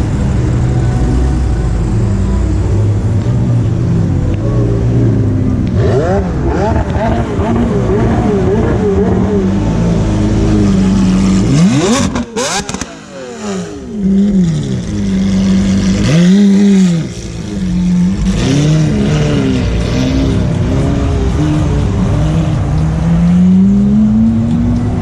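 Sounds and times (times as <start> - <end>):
sports car engines revving: 0.0 - 25.0.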